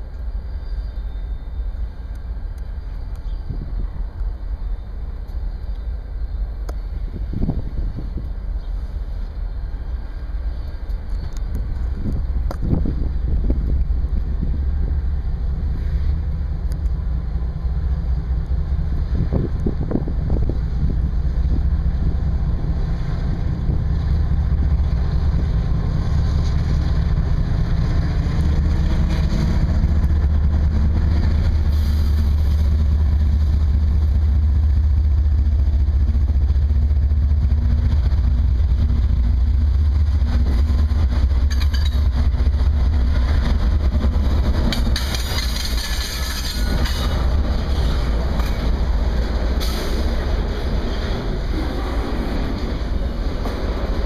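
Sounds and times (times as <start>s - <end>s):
diesel locomotive engine rumble: 0.0s - 54.0s
train cars clicking and rattling: 0.0s - 54.0s.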